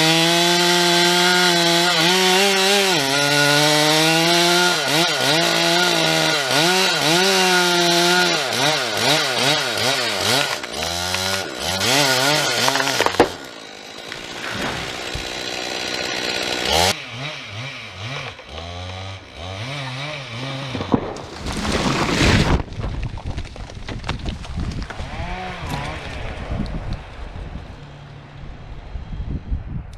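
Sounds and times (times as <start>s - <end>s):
chainsaw cutting wood: 0.0s - 26.7s.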